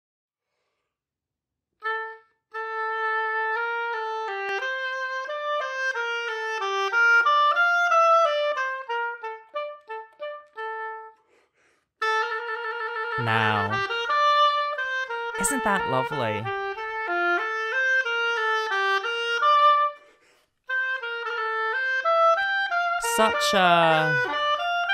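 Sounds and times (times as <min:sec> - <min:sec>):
solo oboe melody: 0:01.8 - 0:11.3, 0:12.0 - 0:24.9.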